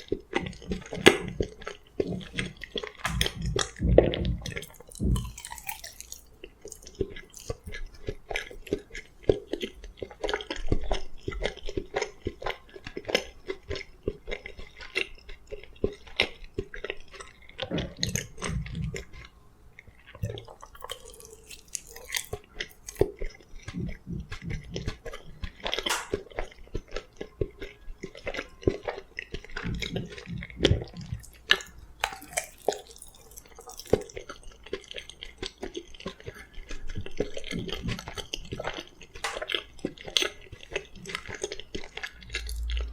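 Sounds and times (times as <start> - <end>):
food crunching: 0.0 - 42.9
person chewing food: 0.0 - 42.9.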